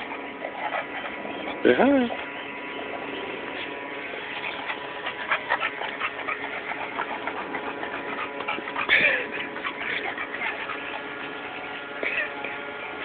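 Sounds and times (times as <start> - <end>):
dog crying: 0.0 - 13.0
dogs clicking and scuffling: 0.0 - 13.0.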